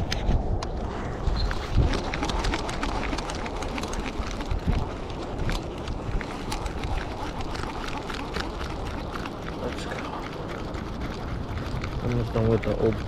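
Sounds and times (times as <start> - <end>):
wind rumbling on microphone: 0.0 - 13.0
small sharp clicks and ticks: 1.4 - 13.0.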